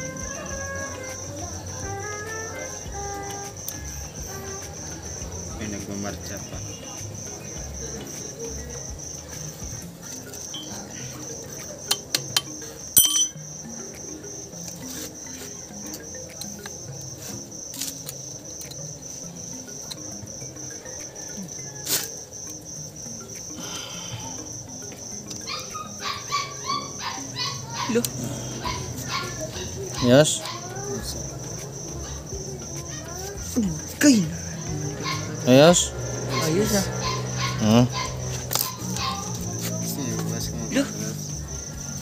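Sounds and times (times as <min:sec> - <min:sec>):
cricket chirping: 0:00.0 - 0:42.0.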